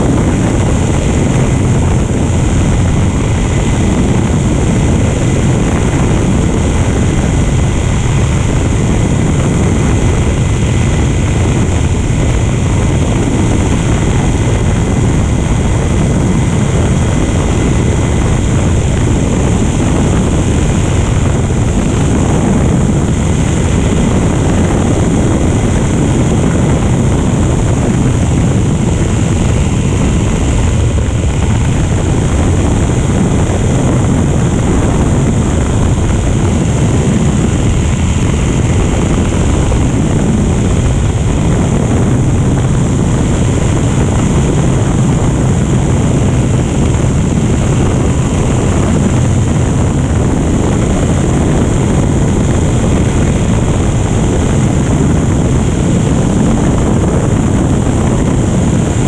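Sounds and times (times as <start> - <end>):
propeller aircraft engine drone: 0.0 - 59.0
rushing wind: 0.0 - 59.0.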